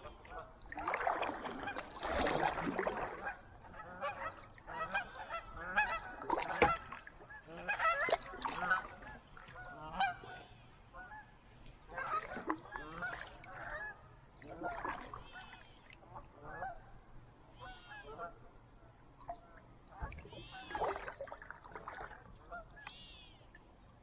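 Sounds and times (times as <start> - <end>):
waterfowl honking: 0.0 - 16.9, 17.6 - 18.5, 19.4 - 23.4.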